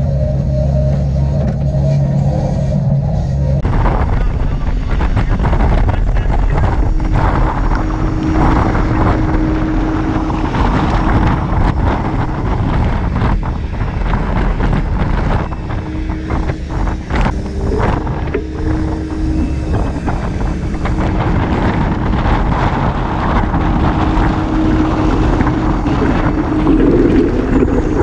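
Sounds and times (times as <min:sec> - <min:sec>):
steady whine: 0:00.0 - 0:28.0
wind buffeting microphone: 0:00.0 - 0:28.0.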